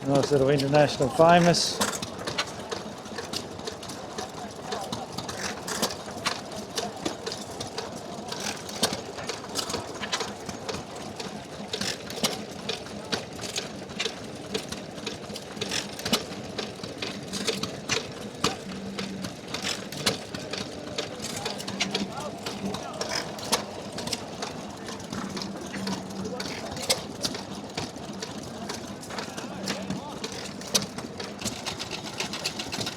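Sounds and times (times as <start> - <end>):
stationary engine clattering: 0.0 - 32.9.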